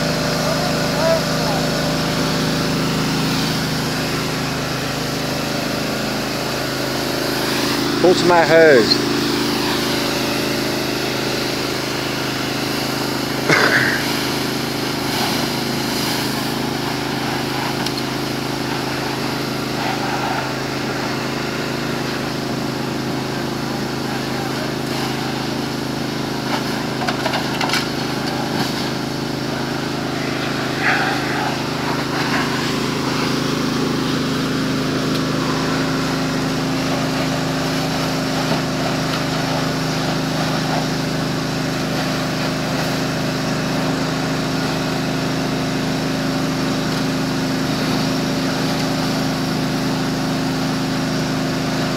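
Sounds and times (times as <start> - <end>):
fire engine pump running: 0.0 - 51.9.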